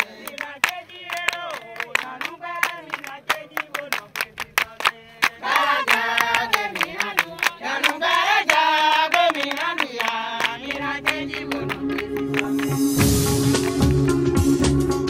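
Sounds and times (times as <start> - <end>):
group of voices singing: 0.0 - 13.1
rhythmic hand clapping: 0.0 - 15.0.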